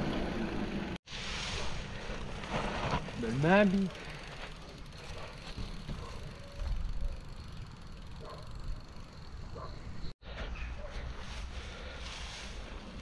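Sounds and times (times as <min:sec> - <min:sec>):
bike tyre and frame noise: 0:00.0 - 0:13.0.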